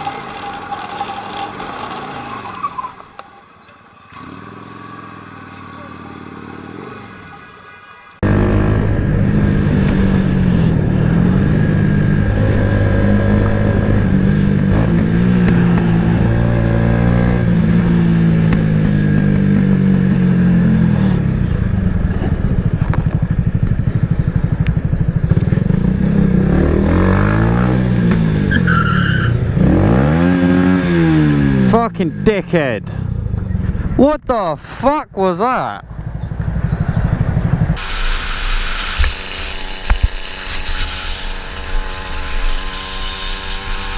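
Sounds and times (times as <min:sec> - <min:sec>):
motorcycle engine revving: 0:04.0 - 0:34.1, 0:35.8 - 0:43.9.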